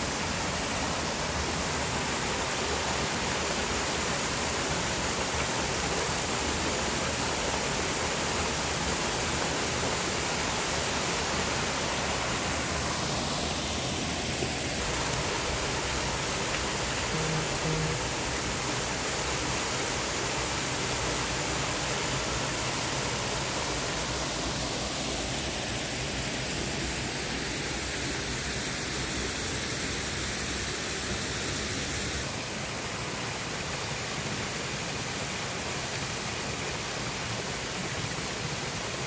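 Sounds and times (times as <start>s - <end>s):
small waterfall splashing: 0.0s - 39.0s.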